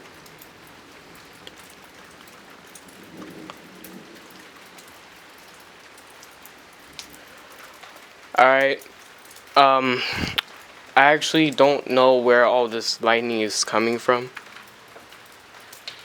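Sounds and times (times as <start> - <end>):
light rain hissing: 0.0 - 16.0
raindrops ticking on surfaces: 0.0 - 16.0.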